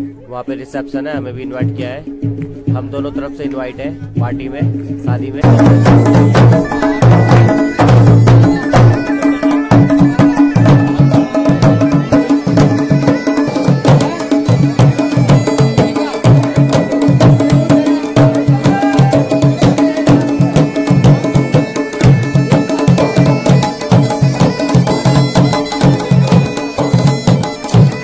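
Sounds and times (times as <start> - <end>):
dhol drum dance rhythm: 0.0 - 28.0
held drone tone: 5.4 - 28.0.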